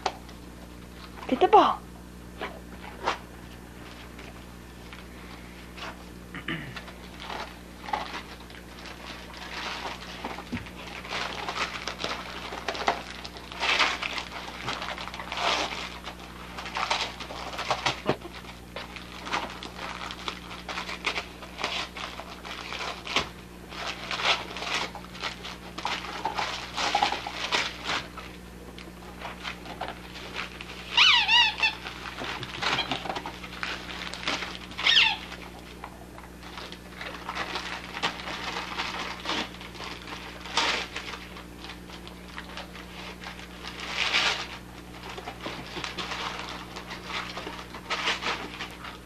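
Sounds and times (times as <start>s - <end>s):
wrapping paper crinkling: 2.7s - 6.2s, 6.8s - 49.0s.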